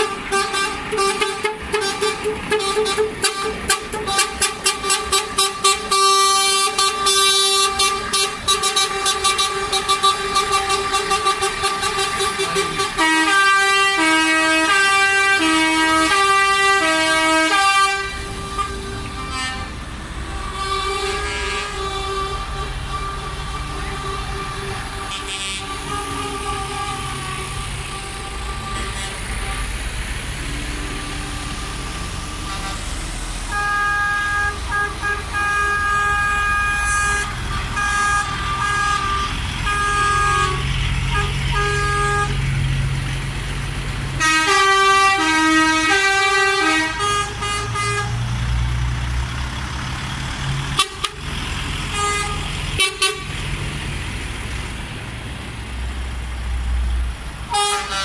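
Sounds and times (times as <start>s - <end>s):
air horns tooting: 0.0s - 29.8s, 30.7s - 42.5s, 44.2s - 48.2s, 50.8s - 51.2s, 51.9s - 53.4s, 57.5s - 58.0s
diesel lorries rolling past: 0.0s - 58.0s.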